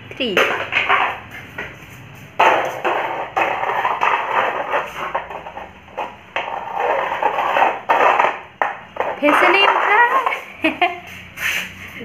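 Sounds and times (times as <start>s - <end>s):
object scraping on concrete floor: 0.4s - 12.0s.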